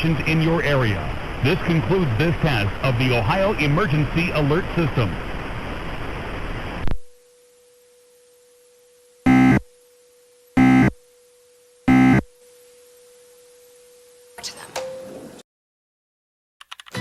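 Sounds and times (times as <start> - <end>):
buzzy digital data bursts: 0.0 - 14.4
faint steady tone: 0.0 - 15.2
static hiss: 0.0 - 15.4.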